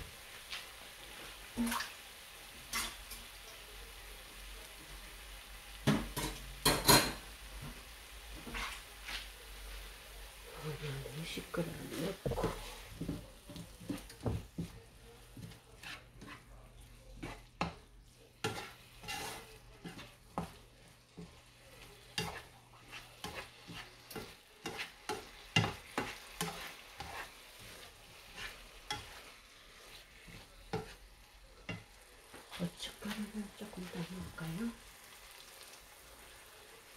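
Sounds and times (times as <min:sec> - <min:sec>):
food sizzling in pan: 0:00.0 - 0:36.9.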